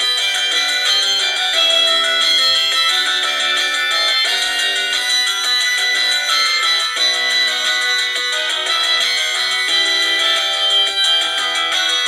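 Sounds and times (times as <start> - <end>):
synthesized phone ringtone melody: 0.0 - 12.0.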